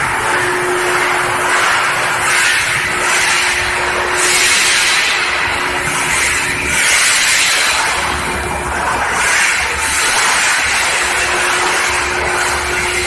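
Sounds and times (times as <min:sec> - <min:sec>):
loud machinery noise: 0:00.0 - 0:13.0.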